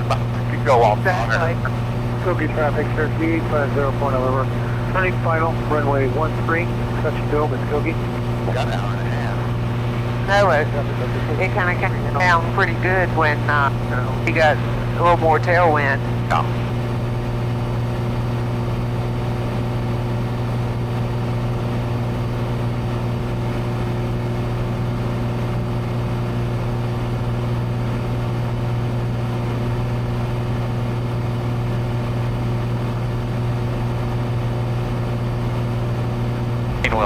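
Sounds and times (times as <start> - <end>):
plane engine droning in cabin: 0.0 - 37.0.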